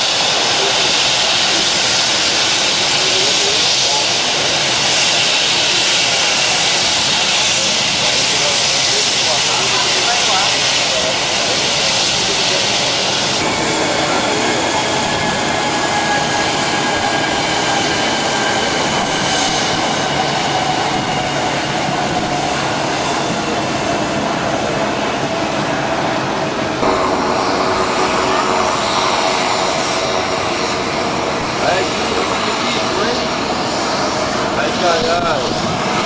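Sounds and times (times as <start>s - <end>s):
airliner engines running: 0.0s - 36.0s.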